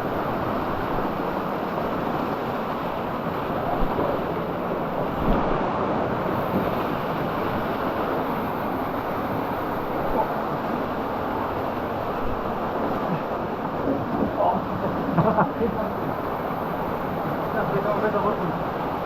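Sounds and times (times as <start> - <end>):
fast-flowing water rushing: 0.0 - 19.0.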